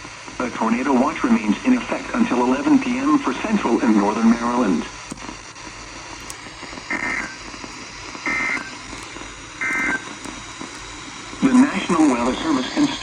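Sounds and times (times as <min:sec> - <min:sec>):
faint radio hiss: 0:00.0 - 0:13.0.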